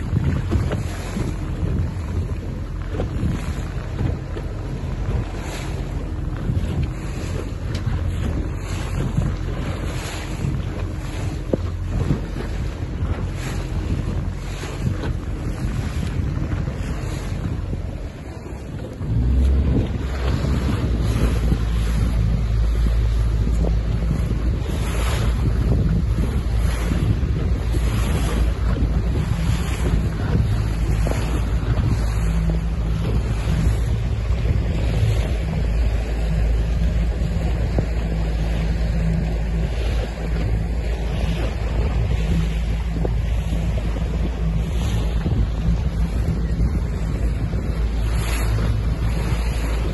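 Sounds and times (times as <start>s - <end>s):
boat engine humming: 0.0s - 49.9s
rushing sea water: 0.0s - 49.9s
wind buffeting microphone: 0.0s - 49.9s.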